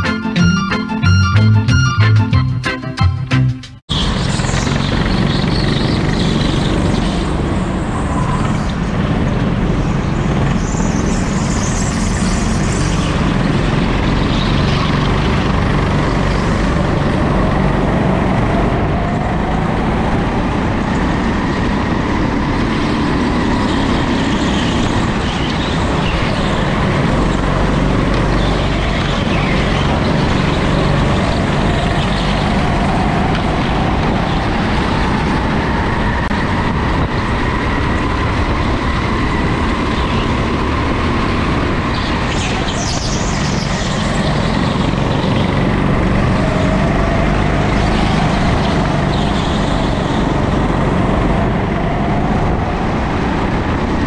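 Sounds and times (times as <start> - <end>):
go-kart motors racing: 3.9 - 54.0.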